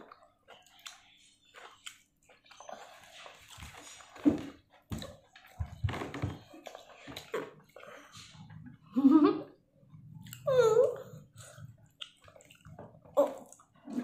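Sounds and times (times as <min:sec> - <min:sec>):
person chewing: 0:00.0 - 0:05.6, 0:06.5 - 0:08.5, 0:10.1 - 0:14.0.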